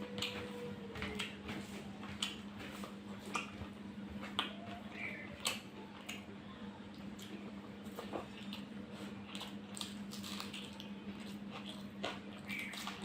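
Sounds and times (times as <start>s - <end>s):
chewing and lip-smacking: 0.2s - 6.3s, 6.9s - 13.0s.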